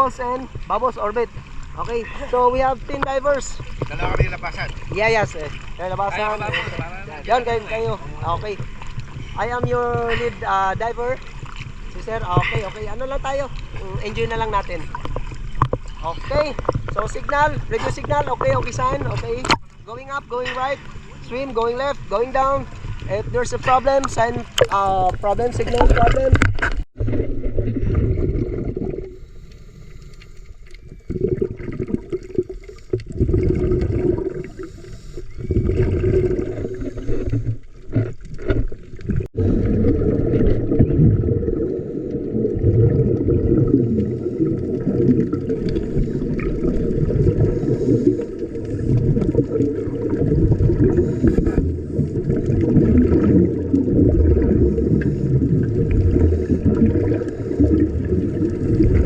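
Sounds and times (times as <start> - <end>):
underwater bubbling rumble: 0.0 - 59.0.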